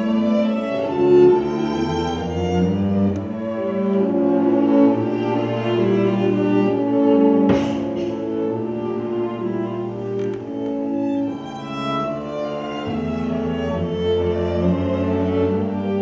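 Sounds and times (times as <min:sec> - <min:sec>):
cello notes: 0:00.0 - 0:16.0
viola: 0:00.0 - 0:16.0
violins: 0:00.0 - 0:16.0.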